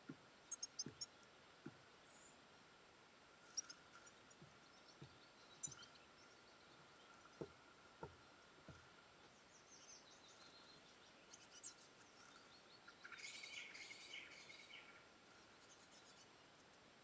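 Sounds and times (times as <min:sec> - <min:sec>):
faint songbird song: 0:00.0 - 0:17.0.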